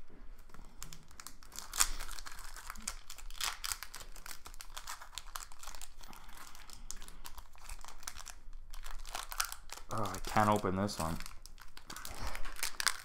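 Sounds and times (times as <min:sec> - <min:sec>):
foil wrapper crinkling: 0:00.4 - 0:13.0.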